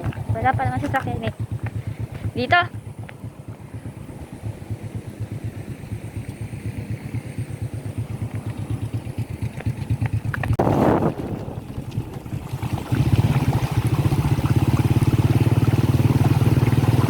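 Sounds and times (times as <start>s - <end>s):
motor engine running: 0.0s - 17.0s.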